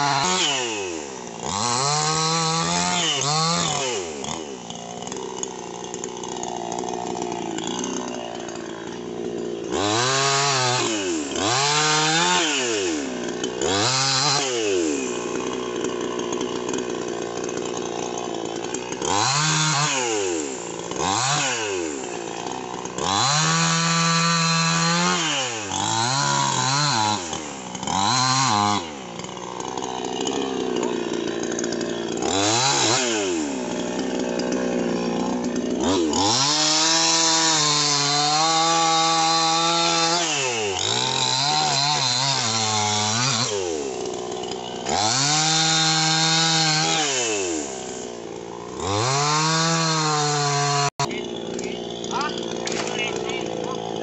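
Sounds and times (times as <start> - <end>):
chainsaw revving and cutting: 0.0 - 54.0.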